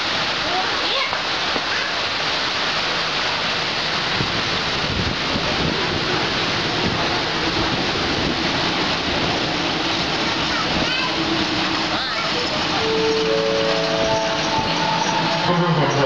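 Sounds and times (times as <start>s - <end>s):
heavy rain pouring: 0.0s - 16.0s
diesel train rumble: 2.1s - 16.0s.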